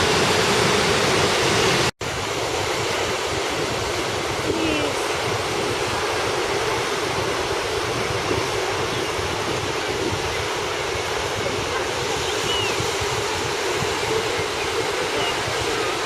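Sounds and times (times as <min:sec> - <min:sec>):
sea surf: 0:00.0 - 0:16.0
wind: 0:00.0 - 0:16.0.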